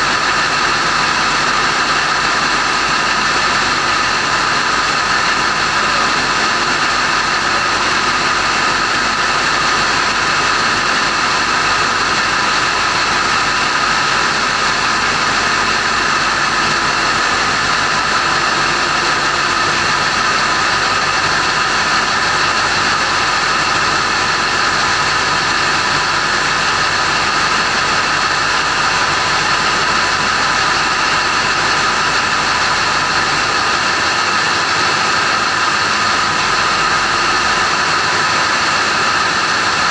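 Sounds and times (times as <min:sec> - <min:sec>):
constant high whine: 0:00.0 - 0:39.9
diesel machinery droning: 0:00.0 - 0:39.9.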